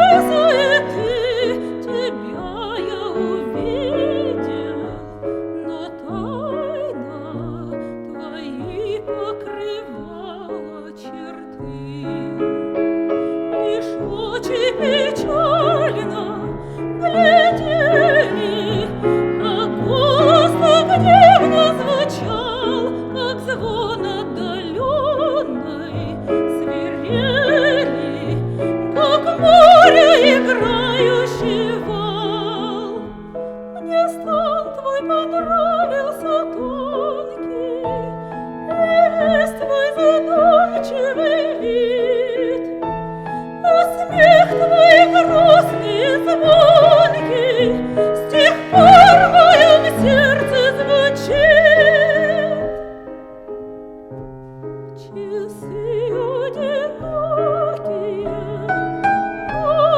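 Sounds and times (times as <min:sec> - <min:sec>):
woman singing operatically: 0:00.0 - 0:53.1, 0:55.0 - 0:59.9
piano accompaniment: 0:00.0 - 0:59.9.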